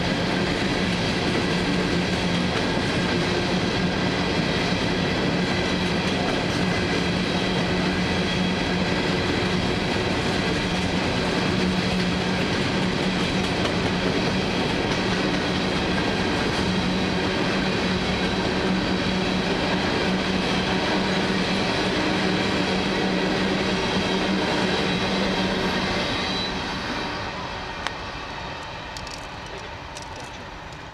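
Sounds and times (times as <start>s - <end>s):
freight train wheels clacking on rails: 0.0s - 30.9s.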